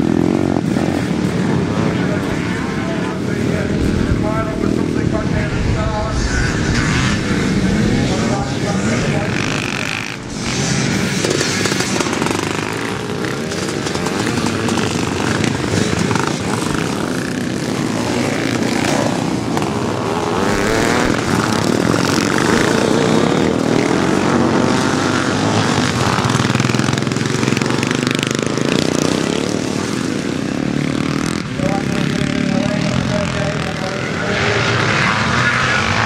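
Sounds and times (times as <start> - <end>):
motocross bikes revving: 0.0 - 36.0.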